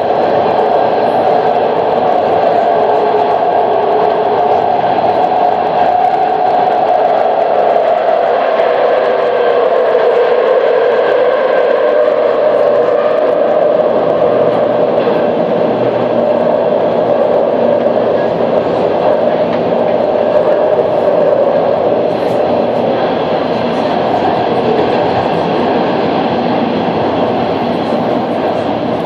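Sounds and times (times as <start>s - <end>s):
constant hum: 0.0s - 29.0s
train wheels on rail: 0.0s - 29.0s.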